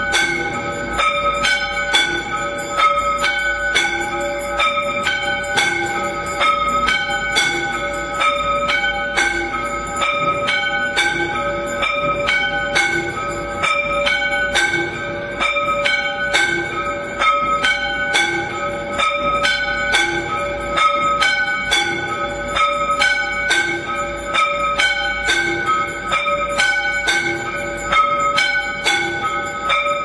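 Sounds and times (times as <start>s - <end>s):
temple bells ringing: 0.0s - 30.0s.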